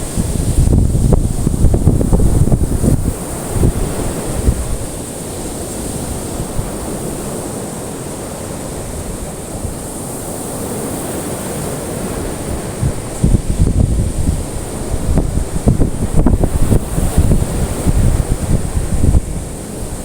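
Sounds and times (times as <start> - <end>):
ocean waves washing on shore: 0.0 - 20.0
wind buffeting microphone: 0.0 - 20.0.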